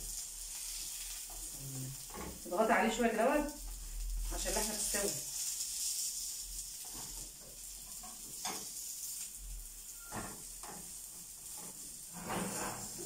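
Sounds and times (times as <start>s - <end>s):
bread sizzling in frying pan: 0.0s - 13.0s.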